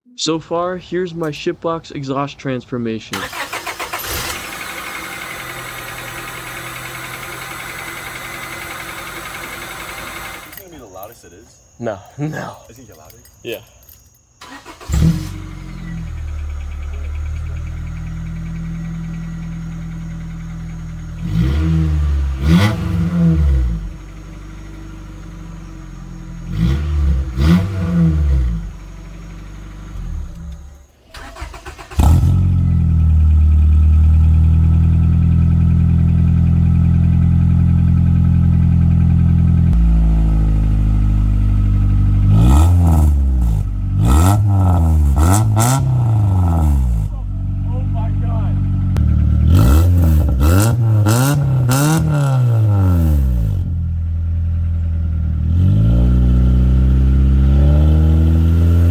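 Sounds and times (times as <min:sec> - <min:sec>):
car engine revving and idling: 0:03.1 - 0:10.7, 0:14.4 - 0:58.9.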